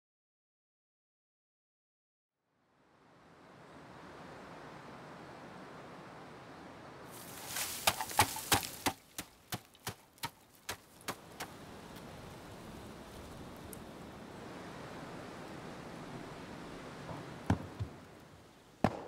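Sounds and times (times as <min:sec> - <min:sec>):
steady outdoor hiss: 0:02.4 - 0:19.0.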